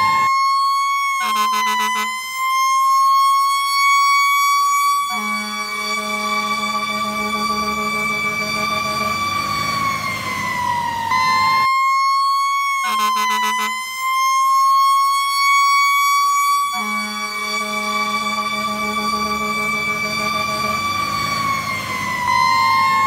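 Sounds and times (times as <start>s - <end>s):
fire truck siren wailing: 0.0s - 23.0s.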